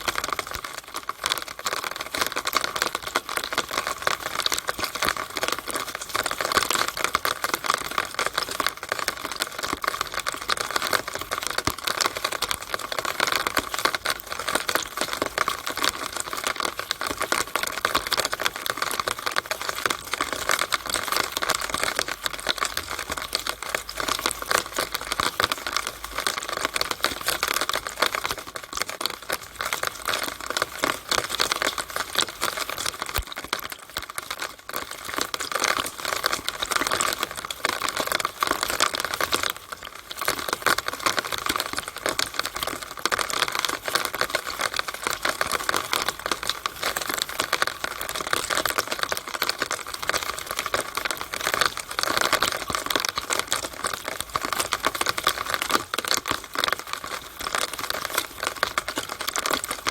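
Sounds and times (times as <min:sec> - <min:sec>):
rain patter and splashing: 0:00.0 - 0:59.9
water running from downspout: 0:00.0 - 0:59.9.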